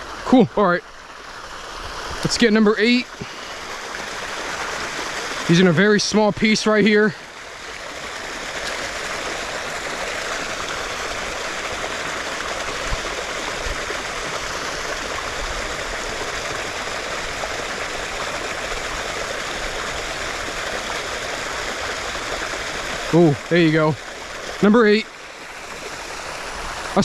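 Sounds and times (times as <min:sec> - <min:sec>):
water flowing in a creek: 0:00.0 - 0:27.0.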